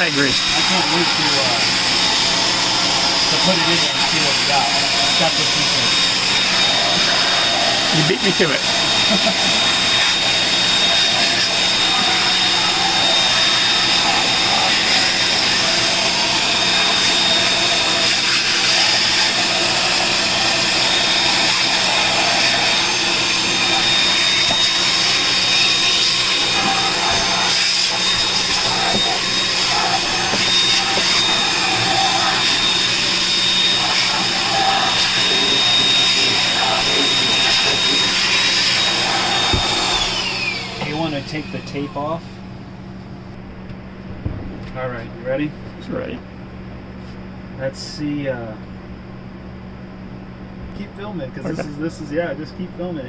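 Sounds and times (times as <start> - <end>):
small electric motor whirring: 0.0 - 42.5.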